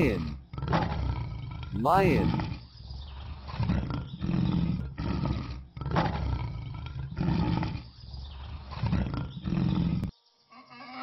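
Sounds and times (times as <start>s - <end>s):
lion roaring: 0.0s - 10.1s.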